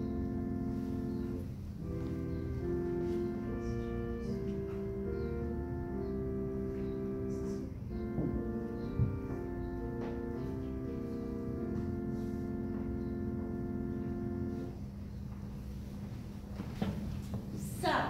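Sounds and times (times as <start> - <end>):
slow keyboard chords: 0.0 - 17.9.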